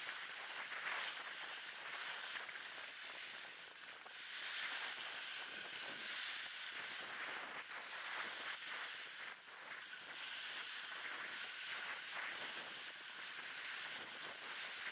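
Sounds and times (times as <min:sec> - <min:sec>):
small waves breaking on beach: 0:00.0 - 0:14.9
wind on microphone: 0:00.0 - 0:14.9.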